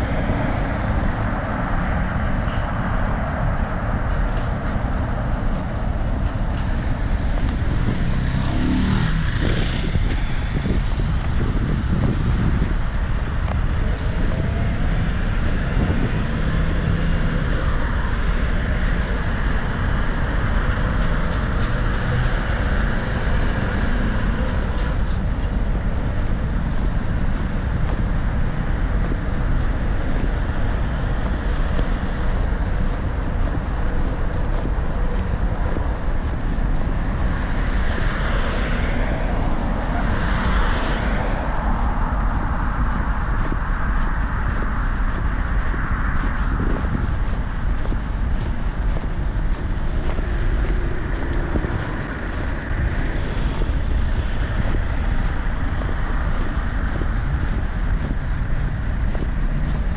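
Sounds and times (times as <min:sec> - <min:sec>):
cars passing: 0:00.0 - 0:59.9
steady low rumble: 0:00.0 - 0:59.9.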